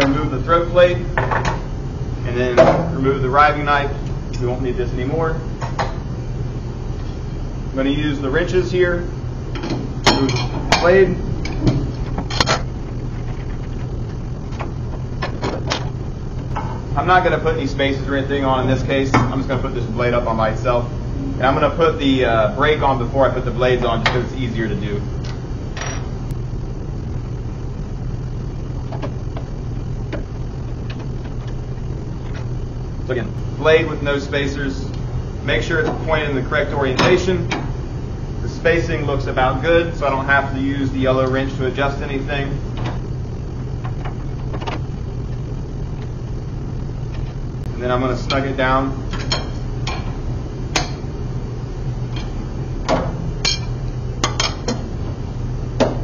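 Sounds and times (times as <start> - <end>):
workshop machinery hum: 0.0 - 56.0.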